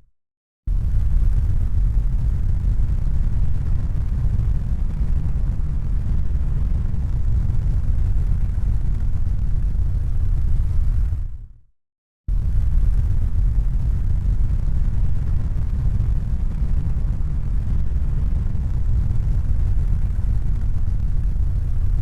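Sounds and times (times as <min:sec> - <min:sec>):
low rumbling noise: 0:00.7 - 0:11.6, 0:12.3 - 0:22.0.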